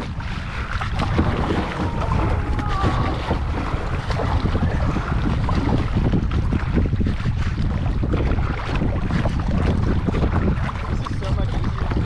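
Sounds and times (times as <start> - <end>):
water splashing against hull: 0.0 - 12.0
wind buffeting microphone: 0.0 - 12.0.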